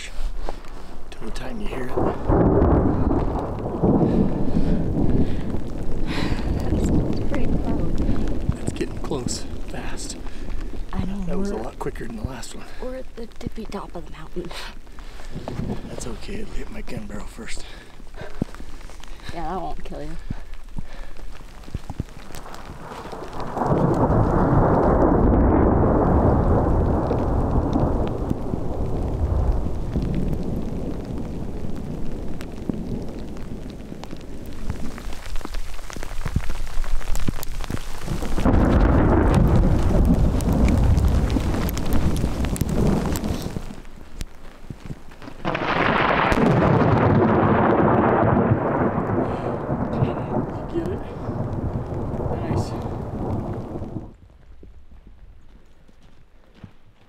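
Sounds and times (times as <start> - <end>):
hail ticking: 0.0 - 54.2
thunder rolling: 1.1 - 44.1, 45.3 - 54.2.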